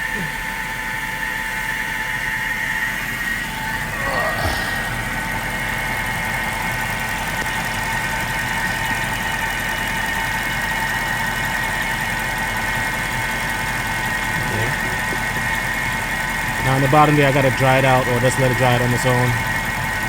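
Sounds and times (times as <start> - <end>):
car engine idling: 0.0 - 4.0, 4.9 - 20.0.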